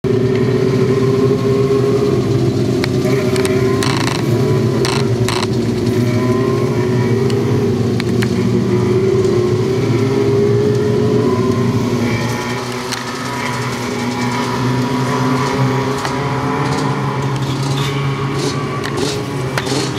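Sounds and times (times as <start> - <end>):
small race car engines running: 0.0 - 19.9.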